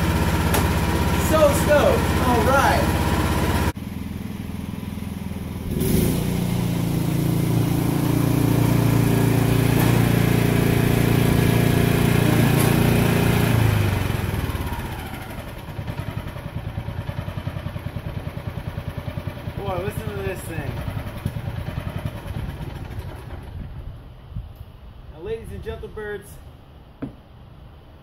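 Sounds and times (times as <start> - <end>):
mower engine running: 0.0 - 24.2.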